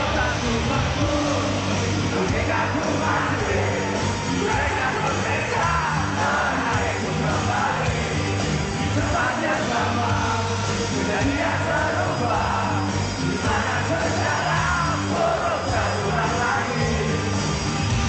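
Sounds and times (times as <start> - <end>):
singer yelling: 0.0 - 17.4
live rock band playing: 0.0 - 18.0.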